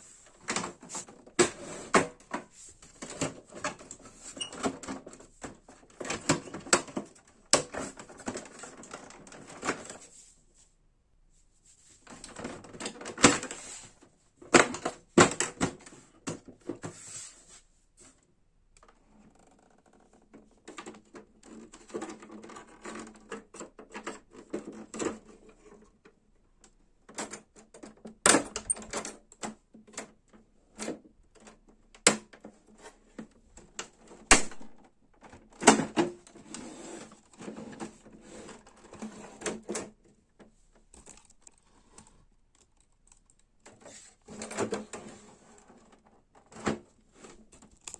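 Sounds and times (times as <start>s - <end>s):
plastic parts clicking and clattering: 0.3s - 10.1s, 12.0s - 17.0s, 18.8s - 47.9s.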